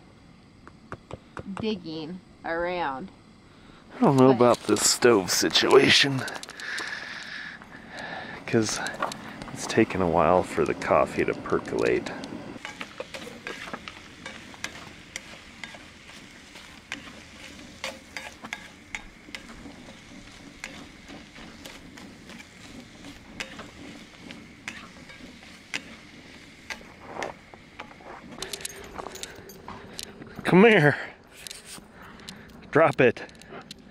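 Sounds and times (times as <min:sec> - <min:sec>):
coffee percolator hissing and popping: 0:02.9 - 0:33.9.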